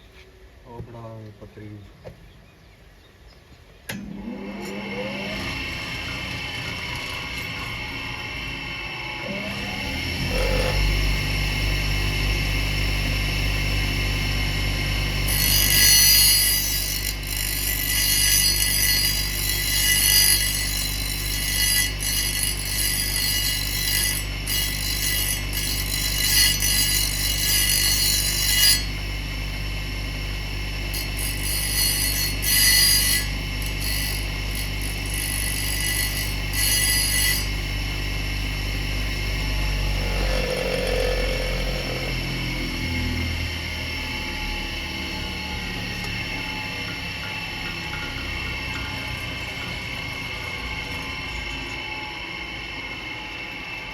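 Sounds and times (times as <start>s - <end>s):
angle grinder running: 3.9s - 53.6s
grinder disc hissing on workpiece: 4.1s - 12.0s, 15.0s - 51.6s.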